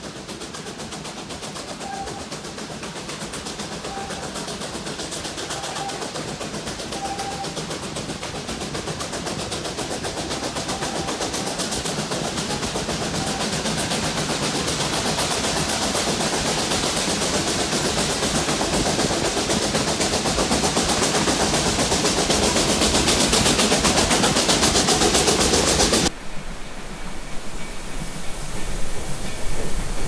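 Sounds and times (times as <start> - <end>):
steam locomotive chuffing: 0.0 - 26.2, 27.2 - 30.0.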